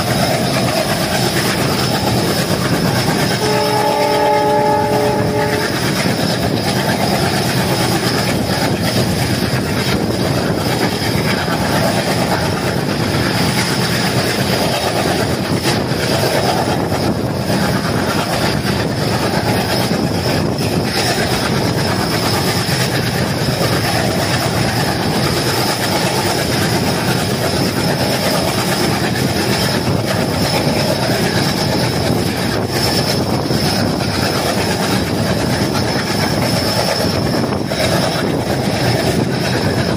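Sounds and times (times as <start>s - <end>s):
rushing wind: 0.0s - 39.9s
train wheels rumbling on rails: 0.0s - 39.9s.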